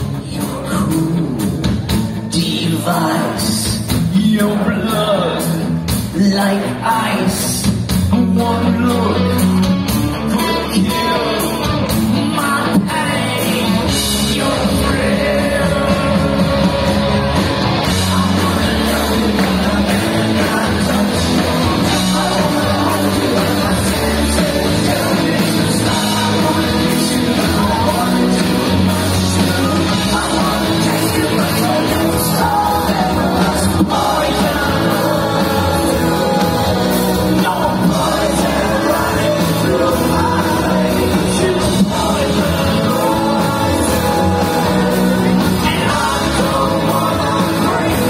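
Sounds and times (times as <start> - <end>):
person singing: 0.0 - 48.0
rock band playing loudly: 0.0 - 48.0.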